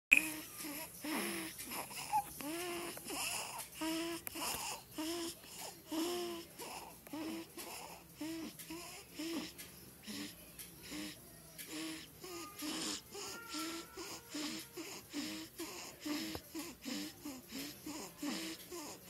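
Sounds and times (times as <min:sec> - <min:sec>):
baby snoring with squeaky grunts: 0:00.1 - 0:19.0.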